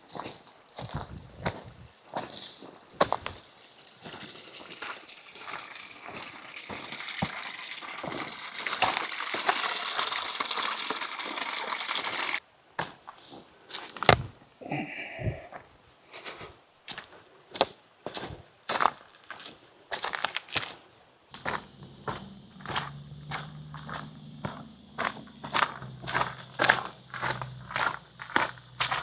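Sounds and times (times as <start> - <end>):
footsteps on rocky trail: 0.0 - 9.1, 12.8 - 14.4, 15.3 - 29.0.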